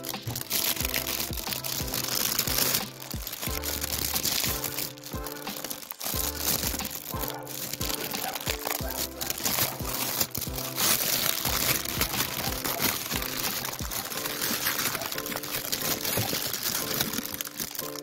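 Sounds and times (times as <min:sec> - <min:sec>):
background music: 0:00.0 - 0:18.0
plastic packaging crinkling: 0:00.0 - 0:18.0.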